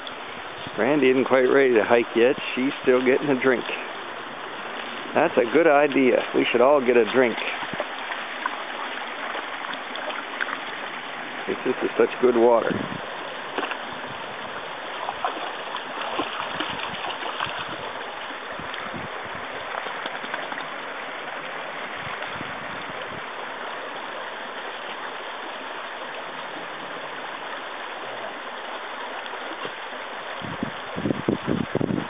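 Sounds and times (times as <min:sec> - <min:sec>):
dogs splashing in water: 0:00.0 - 0:31.0
stream babbling over stones: 0:00.0 - 0:32.0.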